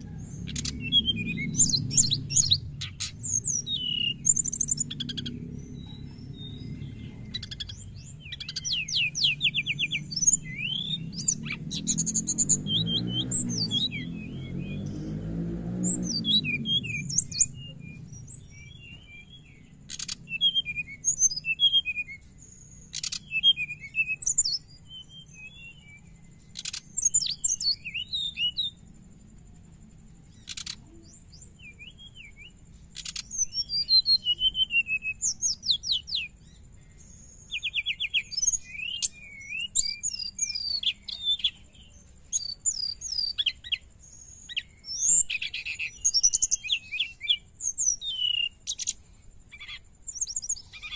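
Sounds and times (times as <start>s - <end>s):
songbird chirping and trilling: 0.0s - 50.9s.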